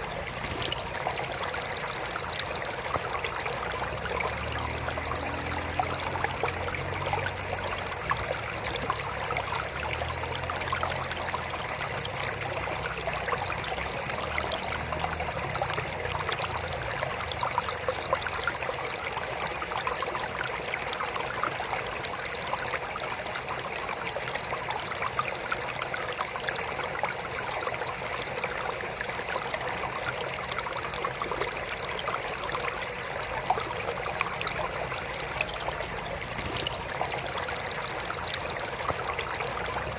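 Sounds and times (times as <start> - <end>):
water trickling into aquarium: 0.0 - 39.9.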